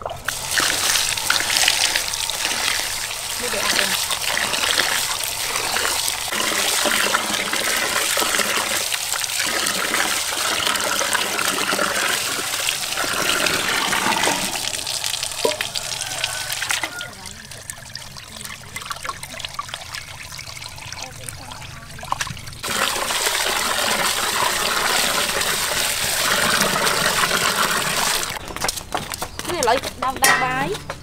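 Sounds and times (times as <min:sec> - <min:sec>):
tap water running into pot: 0:00.0 - 0:28.4
water splashing and dripping: 0:00.0 - 0:28.7.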